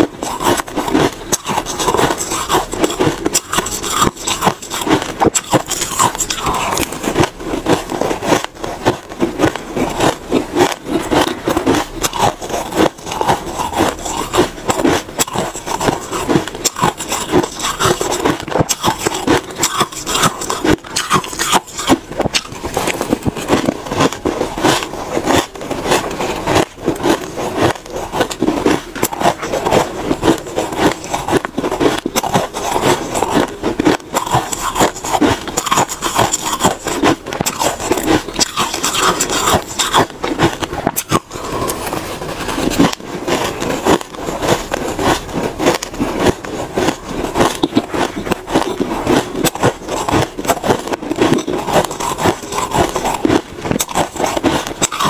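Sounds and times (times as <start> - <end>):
shaved ice being chewed: 0.0 - 55.0.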